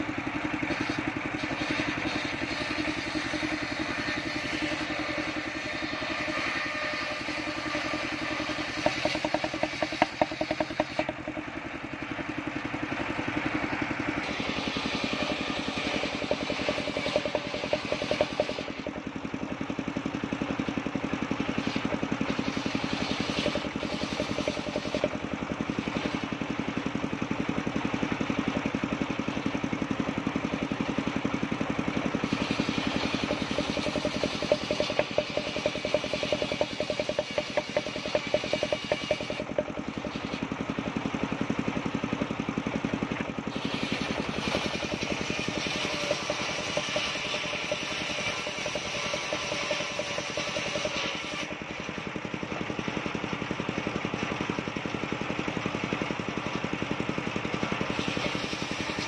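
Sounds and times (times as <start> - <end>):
circular saw blade cutting wood: 0.0 - 53.2, 57.5 - 59.0
engine droning: 0.0 - 59.0.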